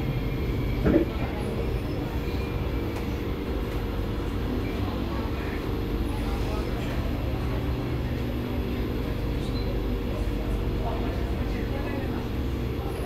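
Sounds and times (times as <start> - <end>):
metro car hum: 0.0 - 13.0.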